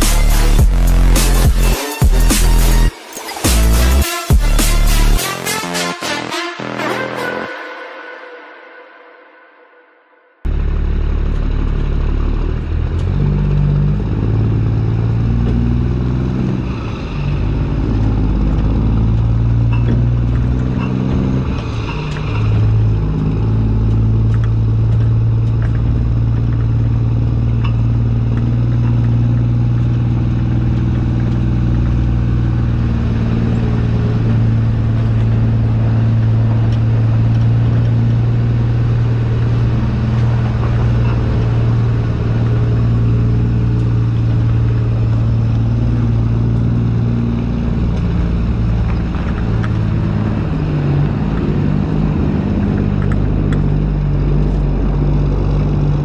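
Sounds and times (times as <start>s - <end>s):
diesel truck engine droning: 0.0s - 9.2s, 10.4s - 56.0s.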